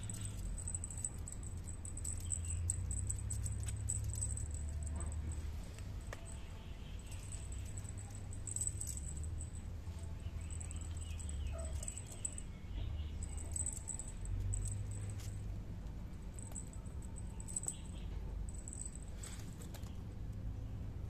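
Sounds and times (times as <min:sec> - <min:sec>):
low hum: 0:00.0 - 0:19.4.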